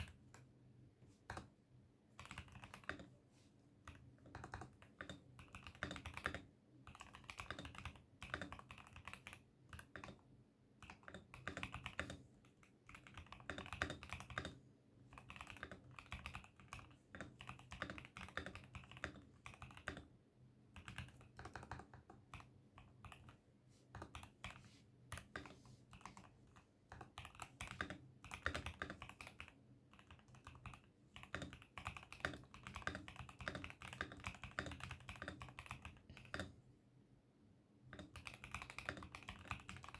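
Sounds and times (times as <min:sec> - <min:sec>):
mechanical keyboard typing: 0:00.0 - 0:00.5, 0:02.2 - 0:03.2, 0:03.8 - 0:10.2, 0:10.8 - 0:36.6, 0:37.9 - 0:39.9.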